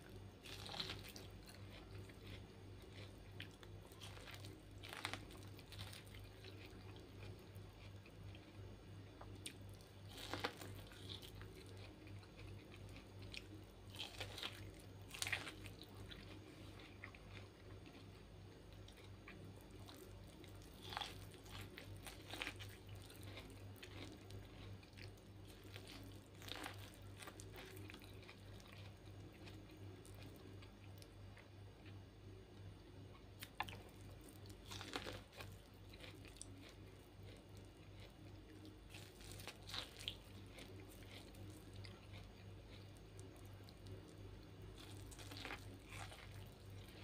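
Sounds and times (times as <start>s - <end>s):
chewing corn with crisp crunches: 0.0s - 32.4s, 33.0s - 47.0s
faint steady hum: 0.0s - 47.0s.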